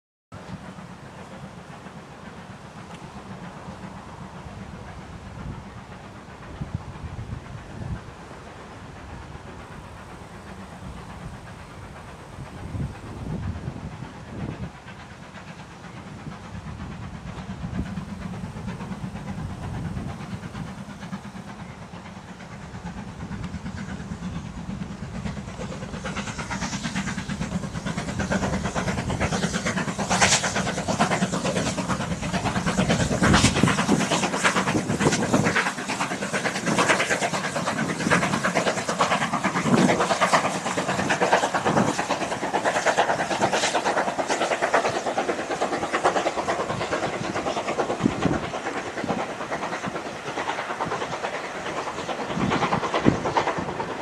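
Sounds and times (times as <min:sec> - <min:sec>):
steam locomotive passing: 0:00.3 - 0:54.0.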